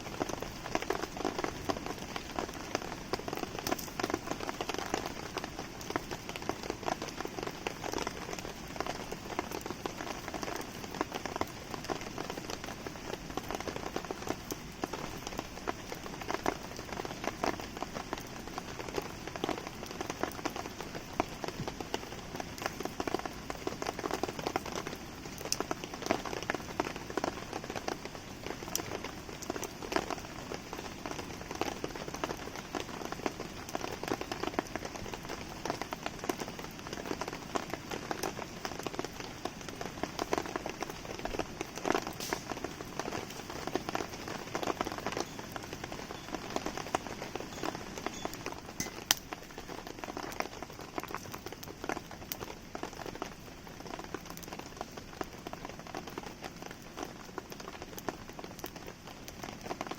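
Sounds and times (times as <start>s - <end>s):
campfire crackling: 0.0s - 59.9s
rain pattering: 0.0s - 59.9s.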